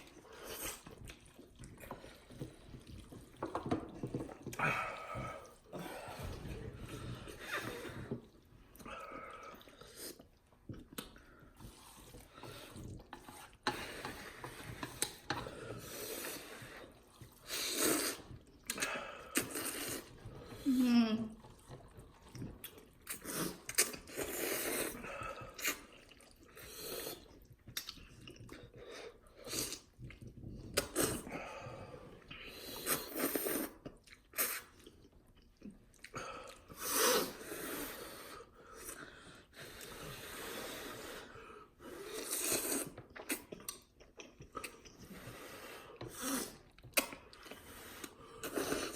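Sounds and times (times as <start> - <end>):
noodles being slurped and chewed: 0.0 - 48.9.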